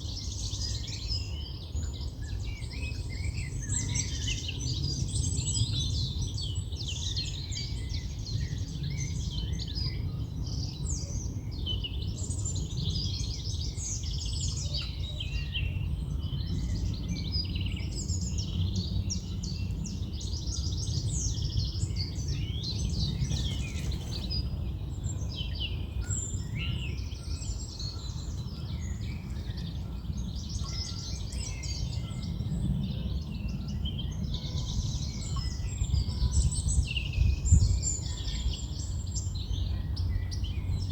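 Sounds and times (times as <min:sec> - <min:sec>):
low wind rumble: 0:00.0 - 0:40.9
songbirds chirping and trilling: 0:00.0 - 0:40.9.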